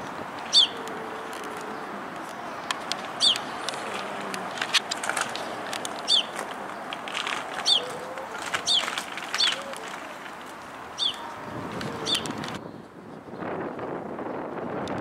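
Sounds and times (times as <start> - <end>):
songbirds chirping: 0.0 - 13.6
steady background noise: 0.0 - 14.2.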